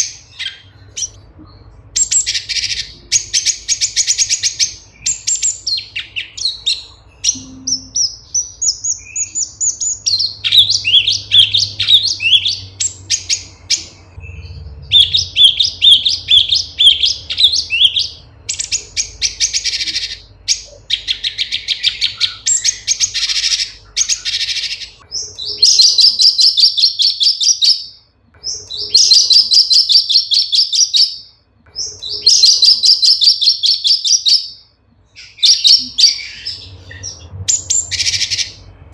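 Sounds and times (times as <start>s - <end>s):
bird singing trills and whistles: 0.0s - 38.7s.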